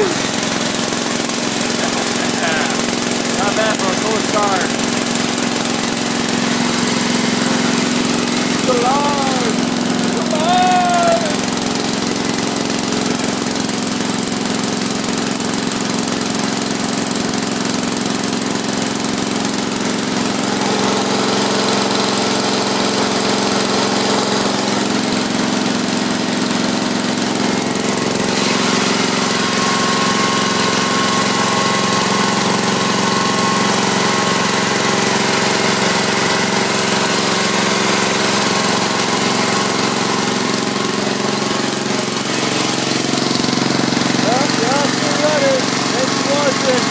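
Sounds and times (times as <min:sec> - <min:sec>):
lawn tractor engine running: 0:00.0 - 0:46.9.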